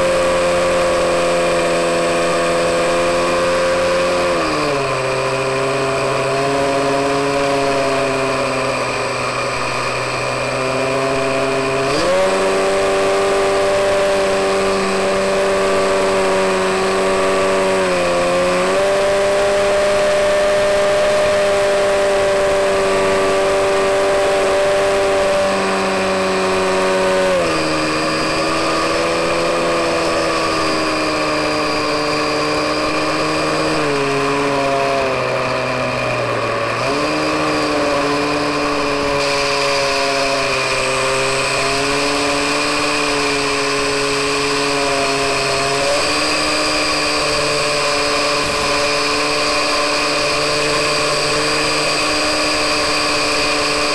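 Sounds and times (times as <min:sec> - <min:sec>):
electric motor and propeller humming: 0:00.0 - 0:53.9.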